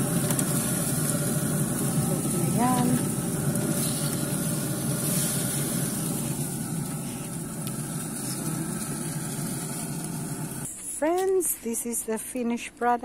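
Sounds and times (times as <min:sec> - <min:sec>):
grill fan and fire rumble: 0:00.0 - 0:10.7.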